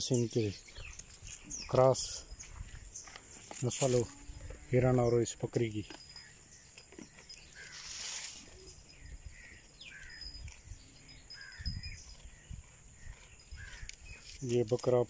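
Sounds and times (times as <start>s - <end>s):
bird chirps: 0.0s - 3.8s, 4.9s - 14.6s
faint outdoor farmyard ambience: 0.0s - 15.0s.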